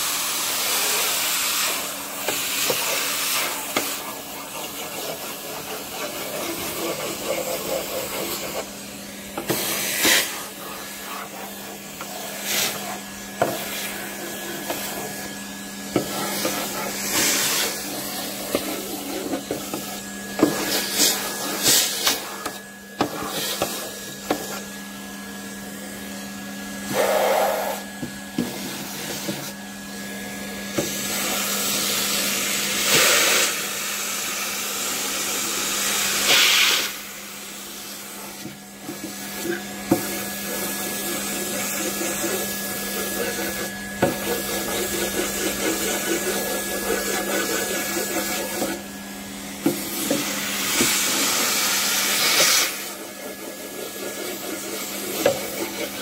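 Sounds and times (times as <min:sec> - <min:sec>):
vacuum cleaner humming: 0:00.0 - 0:56.0.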